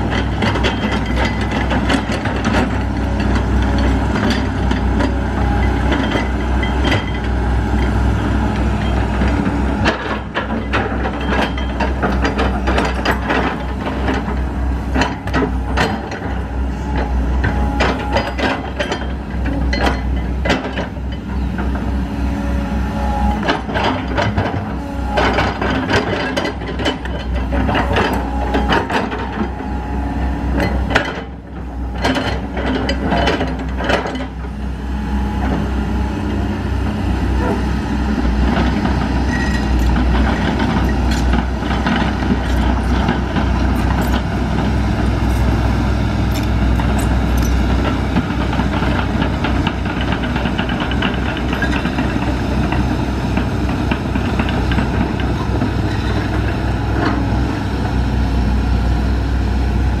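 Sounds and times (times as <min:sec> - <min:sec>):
clanks and knocks: 0:00.0 - 0:08.0, 0:08.6 - 0:21.9, 0:23.4 - 0:29.8, 0:30.5 - 0:34.5, 0:38.2 - 0:57.4
excavator diesel engine running: 0:00.0 - 1:00.0.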